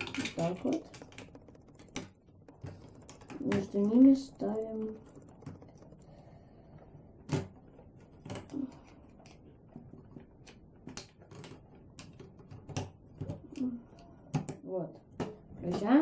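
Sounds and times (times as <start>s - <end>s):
plastic parts clicking: 0.0s - 14.6s.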